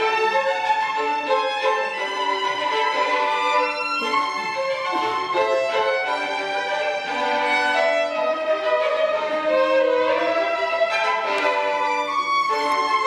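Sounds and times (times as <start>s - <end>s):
two violins playing: 0.0s - 13.0s.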